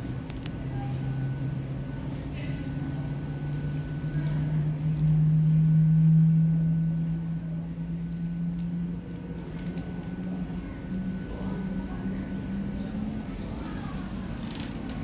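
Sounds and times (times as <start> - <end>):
airliner engine drone: 0.0 - 14.4.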